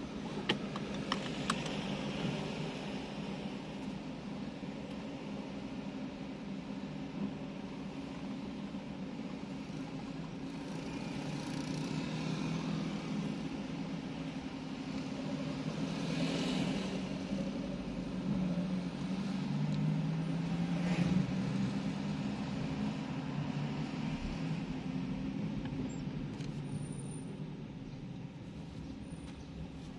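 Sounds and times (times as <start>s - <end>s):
car engine hum in traffic: 0.0s - 29.9s.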